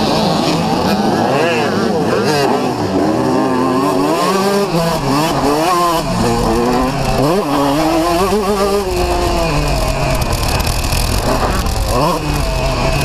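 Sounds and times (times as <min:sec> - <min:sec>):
motorbike engine revving hard: 0:00.0 - 0:13.0.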